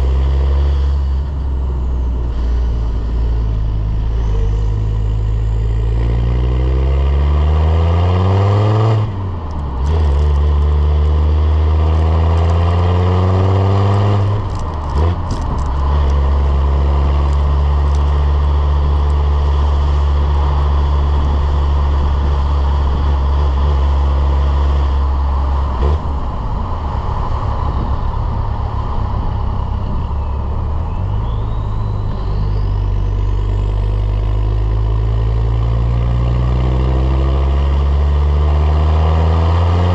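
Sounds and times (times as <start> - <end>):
diesel engine accelerating: 0.0 - 39.9.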